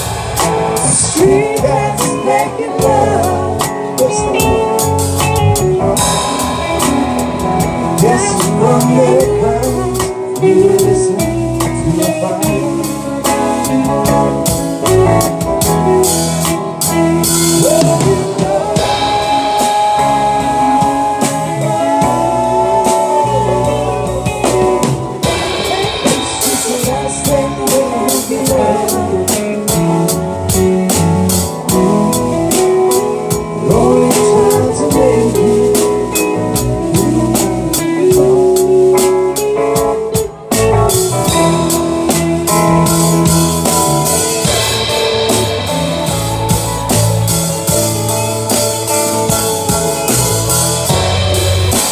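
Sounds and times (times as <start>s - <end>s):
electric guitar lead line: 0.0s - 51.9s
live band playing: 0.0s - 51.9s.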